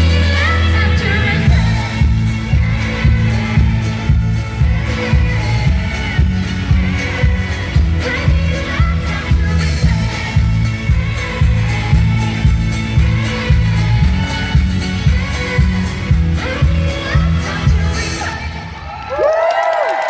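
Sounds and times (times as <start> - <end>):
woman singing: 0.0 - 18.8
live country-pop band: 0.0 - 19.0.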